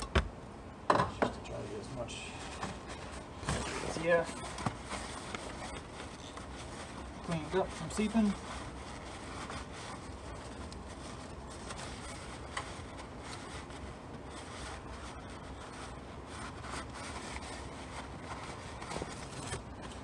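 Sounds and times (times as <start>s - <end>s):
steady low hum: 0.0s - 20.0s
towel rubbing metal parts: 2.5s - 20.0s.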